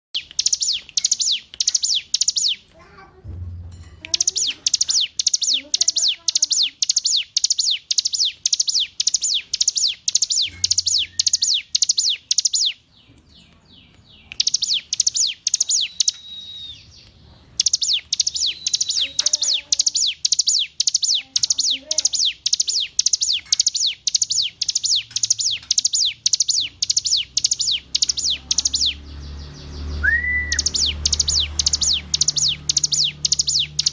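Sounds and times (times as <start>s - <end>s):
bird singing sharp chirps: 0.2s - 2.7s, 4.1s - 13.1s, 13.7s - 33.9s.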